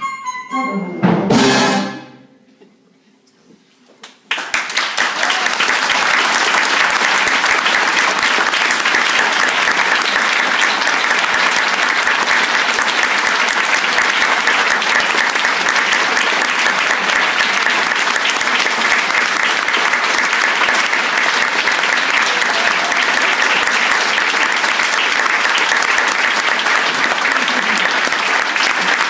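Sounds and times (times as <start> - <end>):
audience applauding: 4.3 - 29.0.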